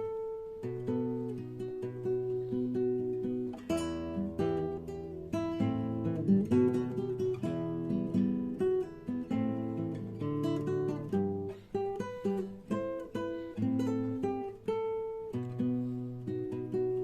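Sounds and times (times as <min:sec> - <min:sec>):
acoustic guitar picked melody: 0:00.0 - 0:17.0.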